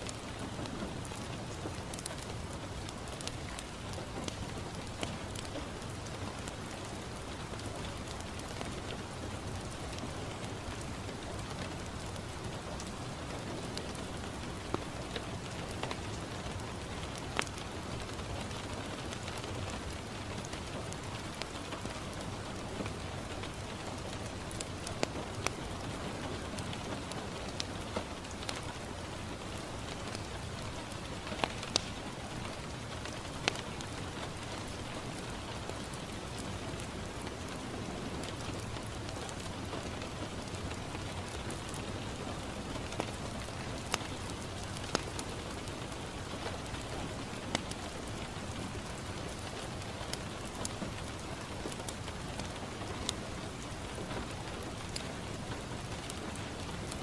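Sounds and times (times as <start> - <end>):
rain falling on a window: 0.0 - 57.0
wood fire crackling and popping: 0.0 - 57.0.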